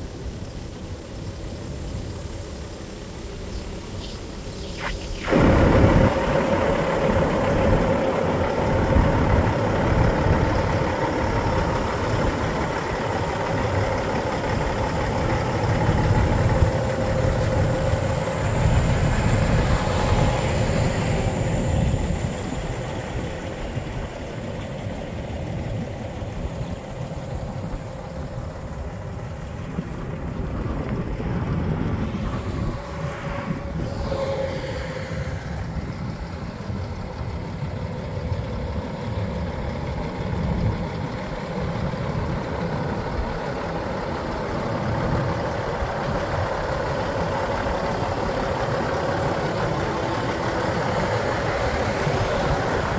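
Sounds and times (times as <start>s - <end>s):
diesel truck engine idling: 5.2s - 52.9s.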